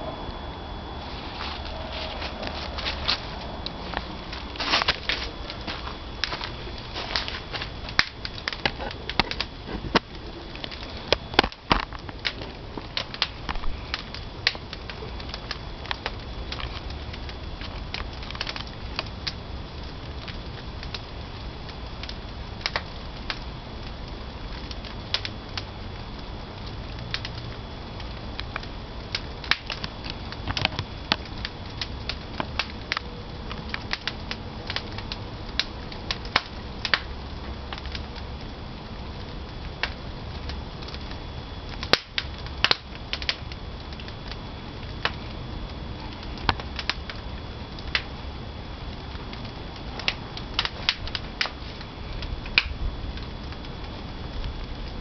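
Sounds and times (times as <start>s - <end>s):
firewood crackling and popping: 0.0s - 55.0s
low fire roar: 0.0s - 55.0s.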